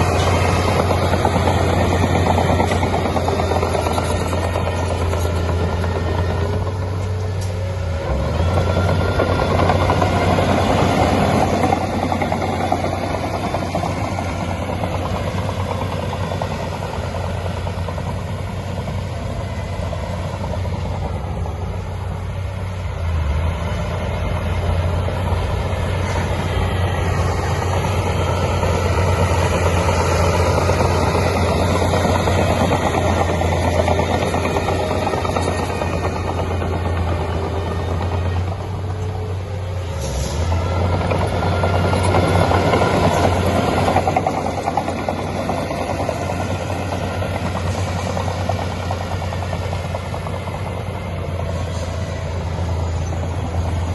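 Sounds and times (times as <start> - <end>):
heavy diesel engine humming: 0.0 - 53.9.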